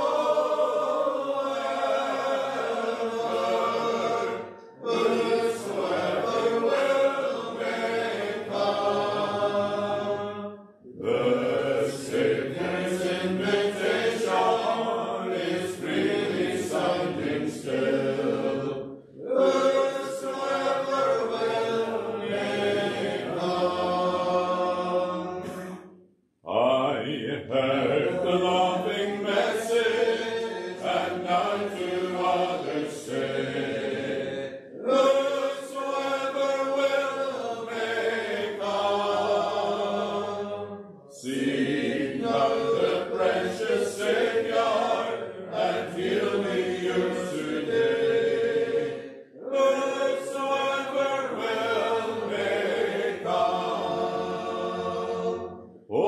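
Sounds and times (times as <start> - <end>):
congregation singing a hymn: 0.0 - 25.9, 26.5 - 56.0.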